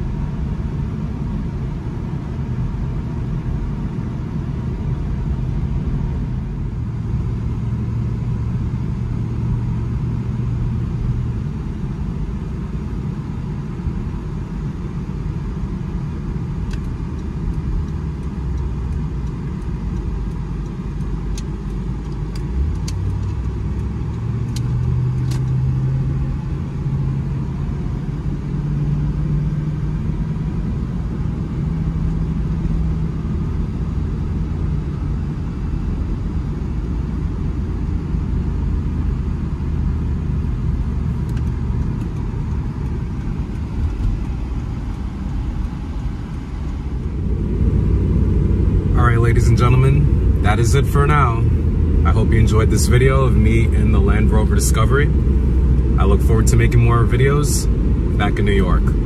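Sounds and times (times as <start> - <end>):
engine and road rumble in car: 0.0 - 59.0.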